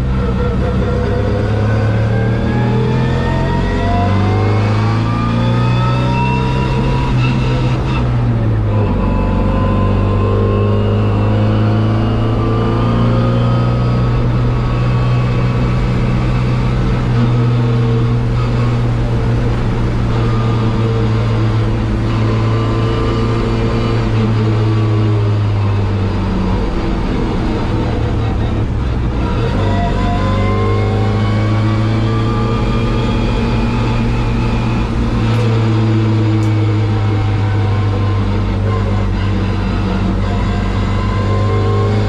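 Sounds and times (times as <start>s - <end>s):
race car engine at full throttle: 0.0s - 42.0s.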